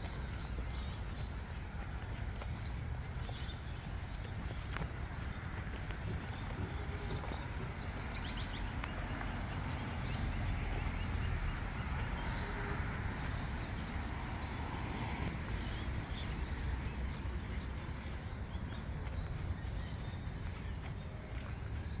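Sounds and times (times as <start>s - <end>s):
footsteps on grass and dirt: 0.0s - 22.0s.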